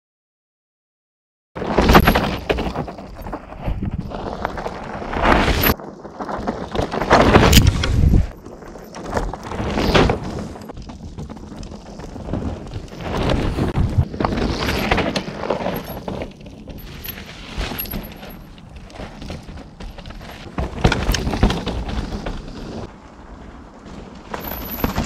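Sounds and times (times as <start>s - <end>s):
bike tyres crunching on dirt: 1.6s - 25.0s.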